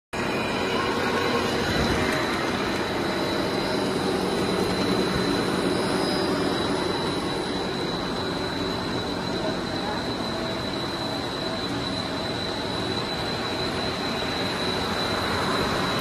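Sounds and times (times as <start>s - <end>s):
extrusion machinery running: 0.2s - 16.0s
high-pitched whine: 0.2s - 16.0s.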